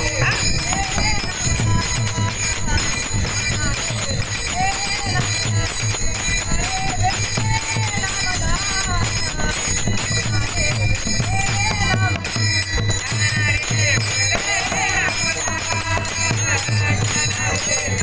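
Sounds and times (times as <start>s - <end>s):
jingling hand cymbals: 0.0s - 18.0s
person singing: 0.0s - 18.0s
steady drum beat: 0.0s - 18.0s.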